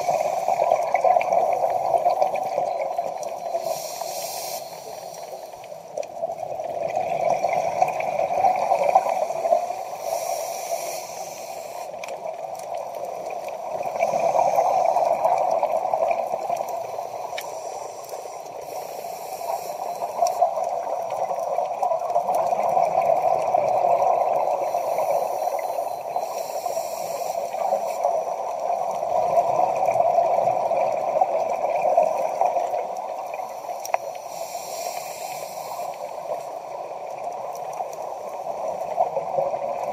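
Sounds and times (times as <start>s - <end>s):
underwater regulator breathing gurgle: 0.0s - 5.8s, 6.4s - 12.4s, 13.1s - 39.9s.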